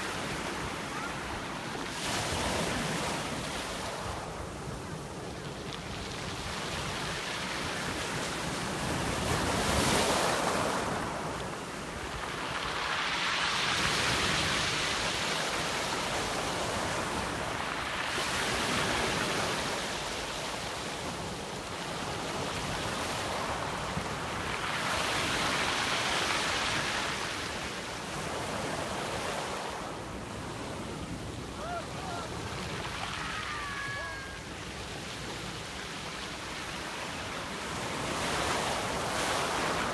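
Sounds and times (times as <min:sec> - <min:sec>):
waves breaking on pebble beach: 0:00.1 - 0:39.9.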